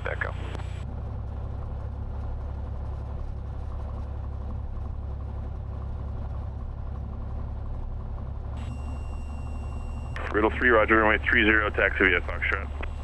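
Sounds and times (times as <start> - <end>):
piston engine drone: 0.0 - 13.0.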